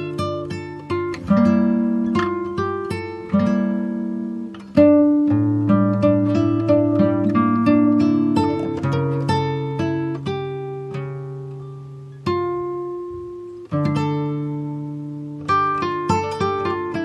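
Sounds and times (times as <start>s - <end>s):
plucked acoustic guitar music: 0.0s - 17.0s.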